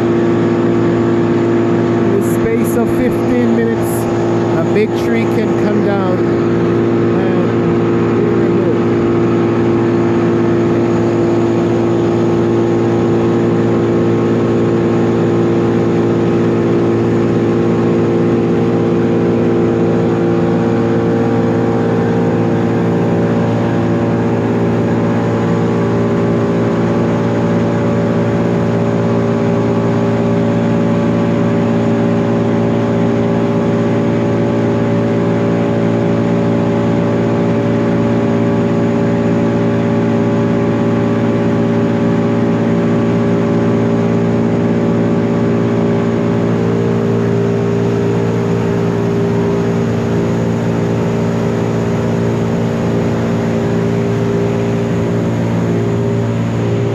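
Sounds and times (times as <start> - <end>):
heavy machinery engine running: 0.0 - 56.9.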